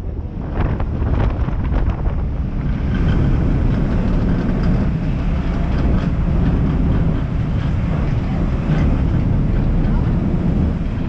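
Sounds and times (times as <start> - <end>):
ship engine rumble: 0.0 - 11.0
wind on microphone: 0.0 - 11.0.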